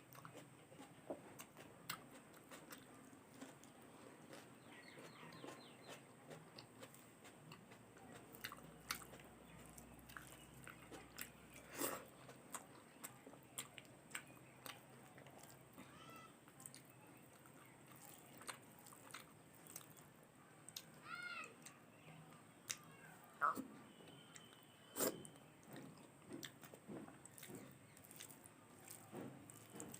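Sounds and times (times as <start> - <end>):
person chewing: 0.1 - 15.8, 16.5 - 20.0, 23.4 - 29.9.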